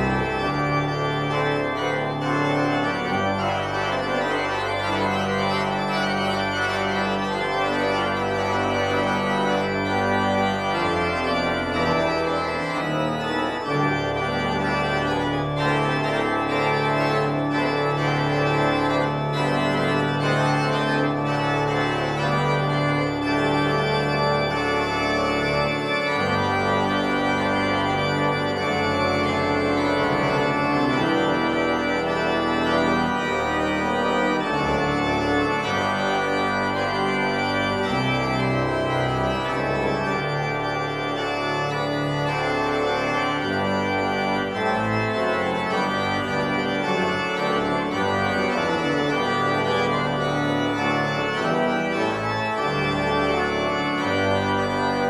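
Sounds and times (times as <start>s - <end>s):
church pipe organ chords: 0.0s - 55.0s.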